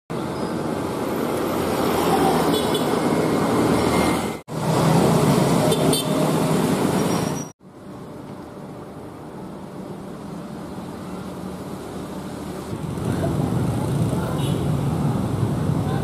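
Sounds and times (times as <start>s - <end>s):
motorcycles and cars passing: 0.1s - 7.5s, 8.3s - 16.0s.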